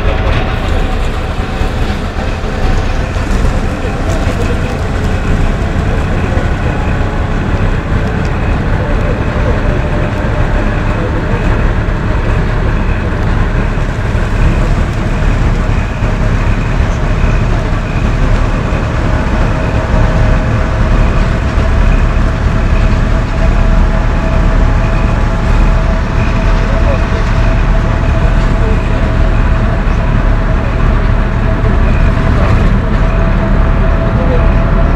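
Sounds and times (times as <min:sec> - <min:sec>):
bus engine running: 0:00.0 - 0:34.9
road noise: 0:00.0 - 0:34.9
steady whine: 0:00.0 - 0:34.9.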